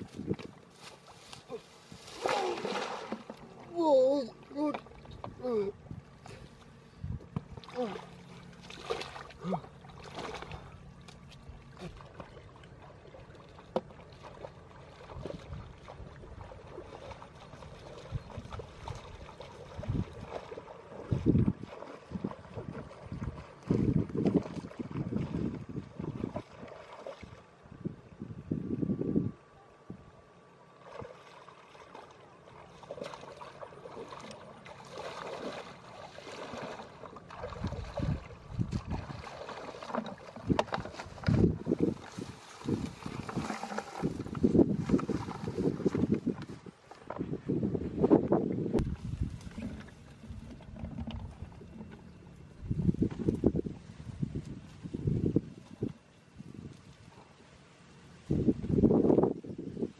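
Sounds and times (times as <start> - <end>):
water sloshing and splashing: 0.0 - 27.6, 30.7 - 59.3.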